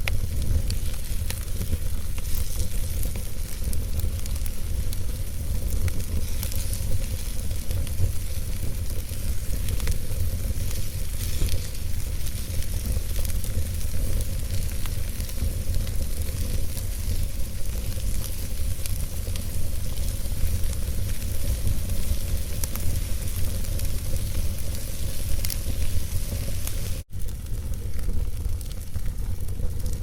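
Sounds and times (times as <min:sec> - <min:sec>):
fire crackling and popping: 0:00.0 - 0:30.0
fire hissing and rumbling: 0:00.0 - 0:30.0.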